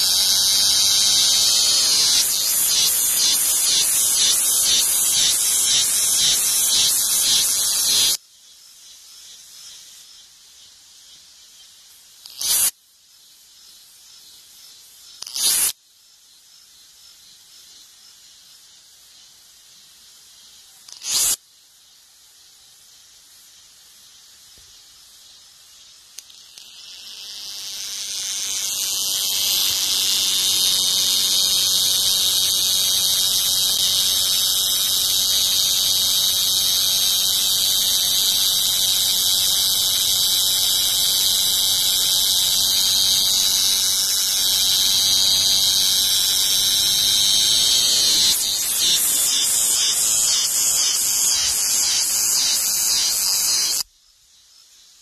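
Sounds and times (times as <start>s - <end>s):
cicada buzzing: 0.0s - 12.8s, 13.5s - 15.8s, 16.7s - 21.4s, 23.4s - 53.9s.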